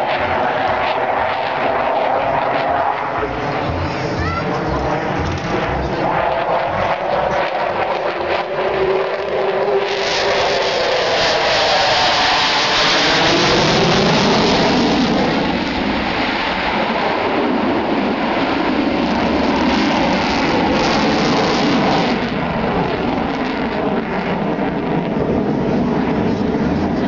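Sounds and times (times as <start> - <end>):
jet engines roaring overhead: 0.0 - 27.0.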